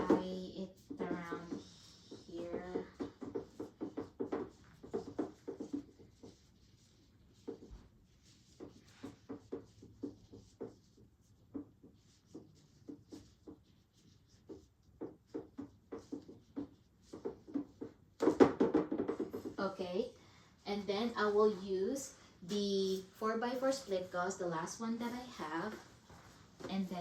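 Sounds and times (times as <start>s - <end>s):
soft taps and rustles: 0.0s - 20.0s, 25.0s - 27.0s.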